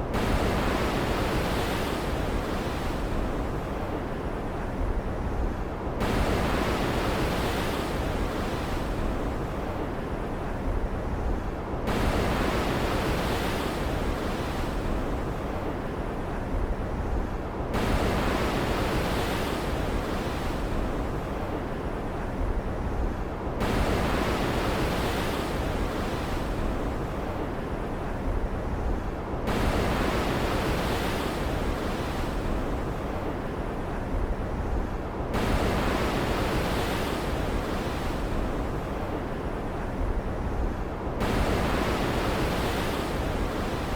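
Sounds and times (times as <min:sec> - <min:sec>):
ocean surf: 0:00.1 - 0:43.9.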